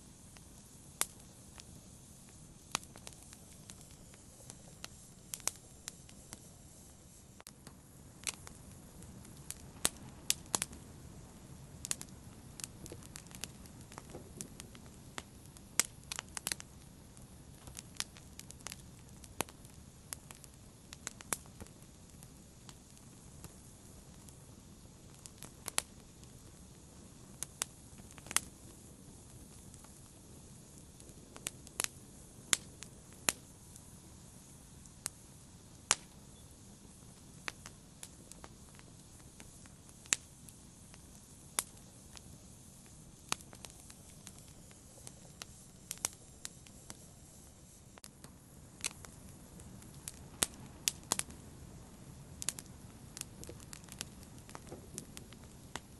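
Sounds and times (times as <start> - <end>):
low rumble of burning: 0.0 - 55.9
wood fire crackling: 0.0 - 55.9.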